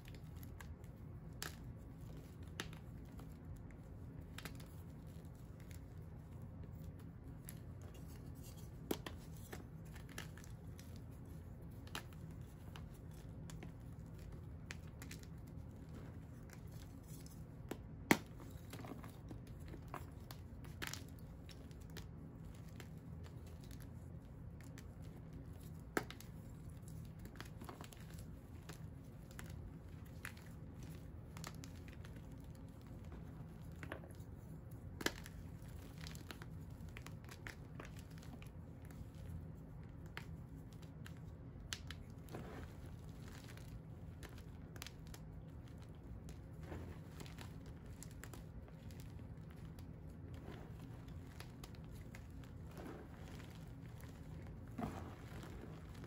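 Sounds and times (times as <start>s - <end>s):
hands crushing crumbly blocks: 0.0s - 56.0s
steady low hum: 0.0s - 56.0s.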